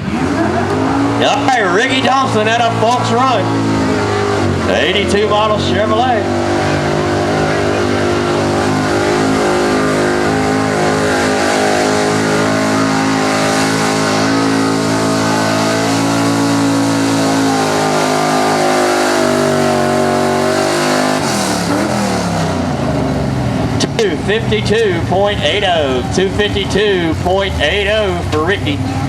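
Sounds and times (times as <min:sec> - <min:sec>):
pickup engine at high revs: 0:00.0 - 0:29.0.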